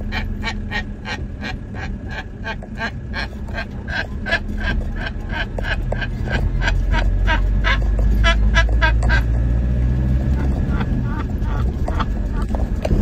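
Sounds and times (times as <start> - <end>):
van engine running: 0.0 - 13.0.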